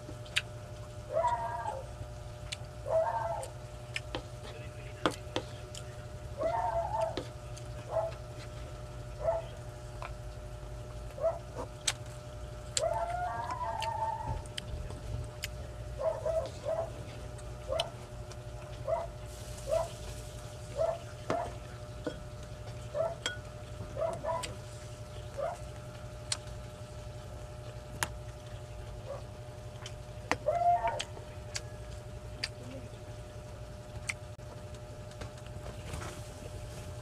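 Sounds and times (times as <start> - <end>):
sharp eating clicks: 0.0 - 20.0, 20.7 - 35.7
steady hum: 0.0 - 37.0.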